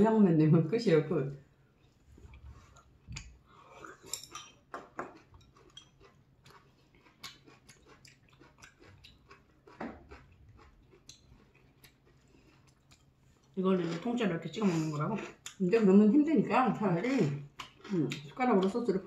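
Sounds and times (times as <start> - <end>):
chewing soft food: 1.7 - 15.7, 17.1 - 19.0.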